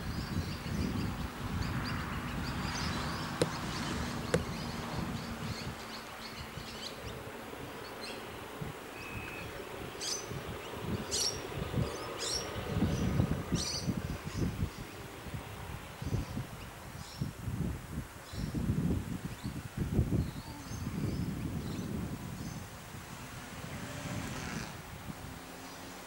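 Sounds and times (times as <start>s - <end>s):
birds chirping: 0.0s - 17.4s, 19.3s - 24.9s
wind buffeting microphone: 0.0s - 26.0s.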